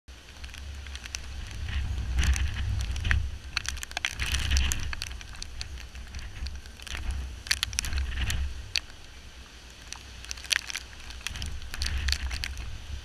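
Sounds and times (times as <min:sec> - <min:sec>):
raindrops ticking on camera: 0:00.1 - 0:13.0
wind gusting against microphone: 0:00.1 - 0:13.0.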